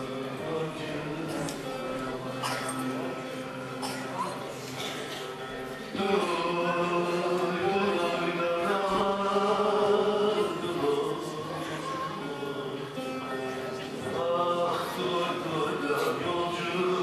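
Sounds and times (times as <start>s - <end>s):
man singing folk song: 0.0s - 17.0s
plucked lute accompaniment: 0.0s - 17.0s.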